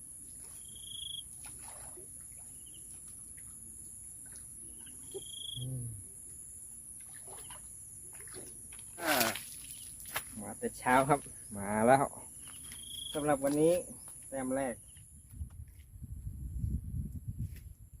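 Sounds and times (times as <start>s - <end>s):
insects droning: 0.0s - 15.3s.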